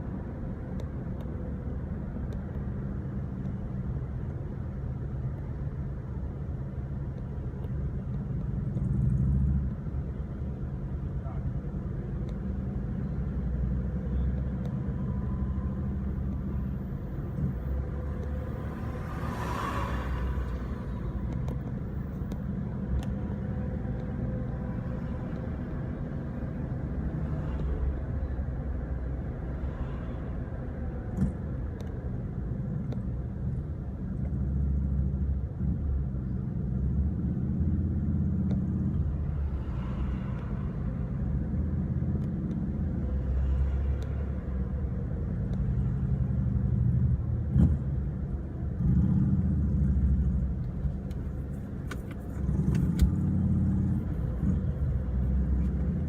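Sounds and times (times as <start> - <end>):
car road rumble and engine: 0.0 - 56.0.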